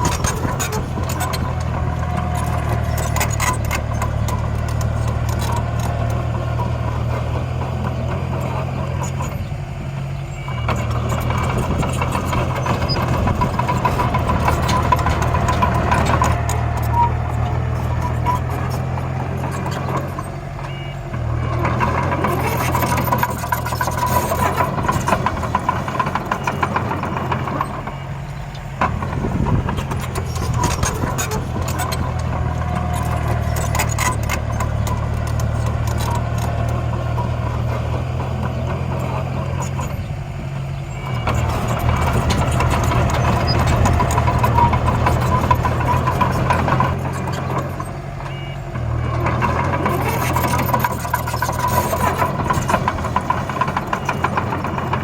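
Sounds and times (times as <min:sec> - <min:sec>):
clicking and rattling: 0:00.0 - 0:09.4, 0:10.7 - 0:20.8, 0:21.5 - 0:40.0, 0:41.0 - 0:48.4, 0:49.1 - 0:55.0
construction vehicle engine running: 0:00.0 - 0:55.0.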